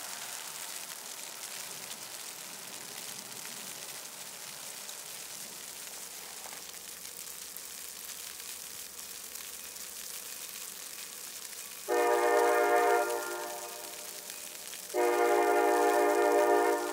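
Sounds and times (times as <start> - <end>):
soft outdoor hiss: 0.0 - 16.9.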